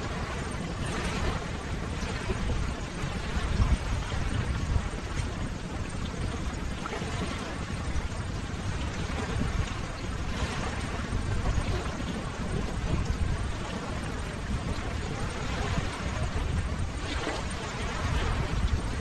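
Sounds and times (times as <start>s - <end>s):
ocean surf washing: 0.0s - 19.0s.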